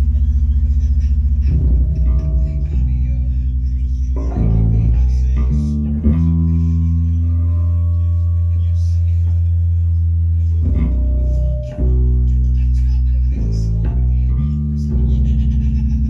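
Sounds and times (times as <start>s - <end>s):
loud bass guitar notes: 0.0s - 16.0s.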